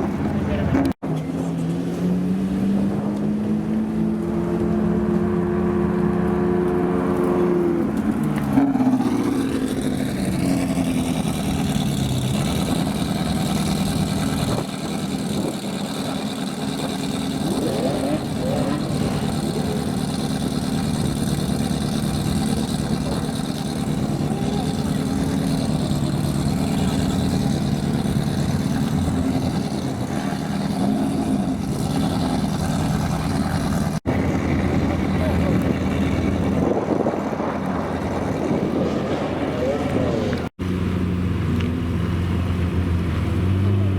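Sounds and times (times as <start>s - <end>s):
car engines running and revving: 0.0s - 43.9s.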